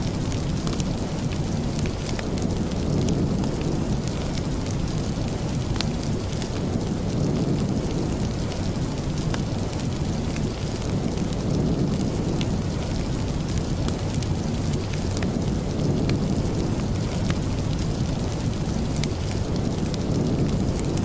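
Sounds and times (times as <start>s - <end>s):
heavy steady rain: 0.0s - 21.0s.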